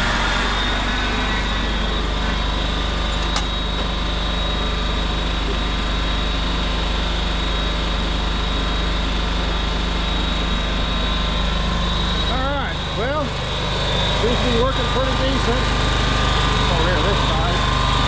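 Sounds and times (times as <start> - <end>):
mower engine running: 0.0 - 18.0.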